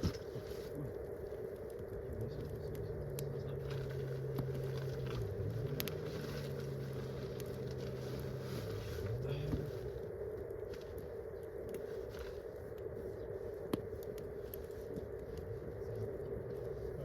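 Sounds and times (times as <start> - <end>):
campfire crackling: 0.0 - 17.0
low engine drone: 0.0 - 17.0.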